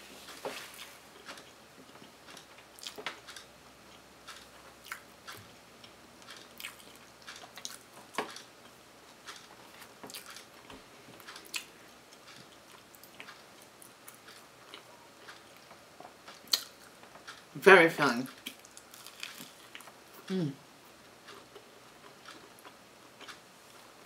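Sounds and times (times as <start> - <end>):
person chewing: 0.6 - 3.5, 4.3 - 17.4, 18.4 - 20.6, 21.2 - 23.4.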